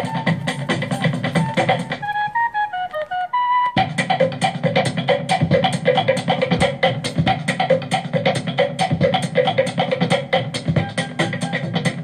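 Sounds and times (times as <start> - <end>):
quick steady drum beat: 0.0 - 2.4, 3.8 - 12.0.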